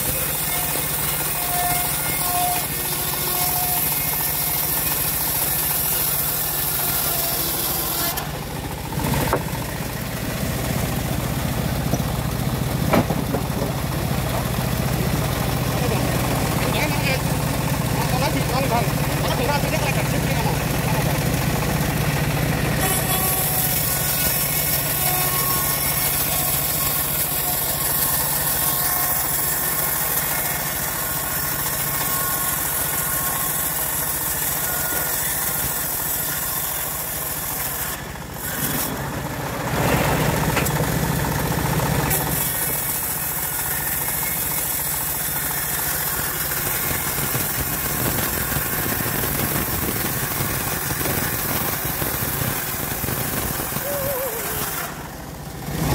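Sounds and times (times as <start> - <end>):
bandsaw blade cutting log: 0.0 - 55.9
engine hum: 0.0 - 55.9.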